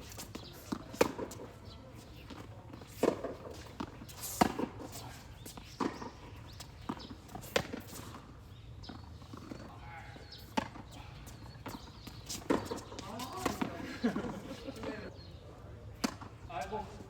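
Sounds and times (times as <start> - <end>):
tennis balls struck by rackets: 0.0 - 15.2, 15.9 - 16.8.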